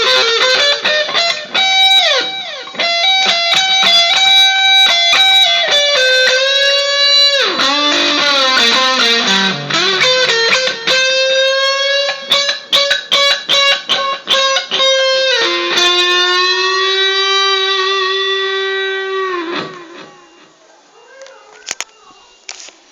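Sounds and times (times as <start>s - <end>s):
overdriven electric guitar: 0.0s - 20.6s.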